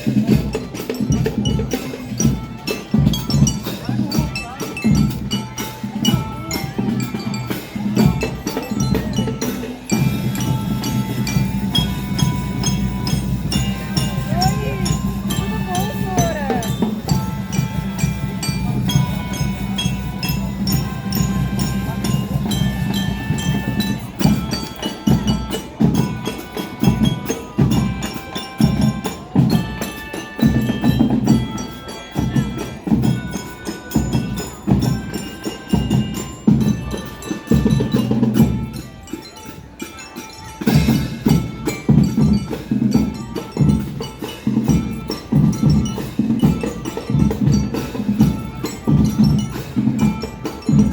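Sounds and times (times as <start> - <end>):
bell-like mallet percussion melody: 0.0 - 50.9
marching drum beats: 0.0 - 50.9.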